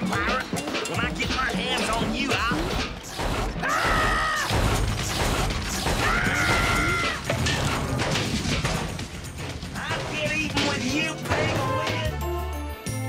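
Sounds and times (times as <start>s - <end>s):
conveyor machinery clattering: 0.0s - 12.1s
background music: 0.0s - 13.0s.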